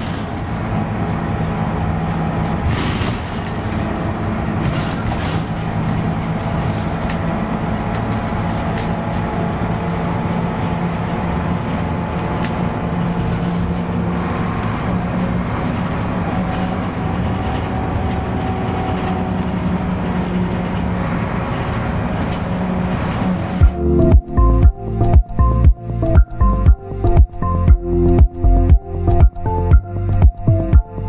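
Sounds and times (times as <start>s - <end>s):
bus diesel engine running: 0.0s - 31.0s
road and tyre noise: 0.0s - 31.0s.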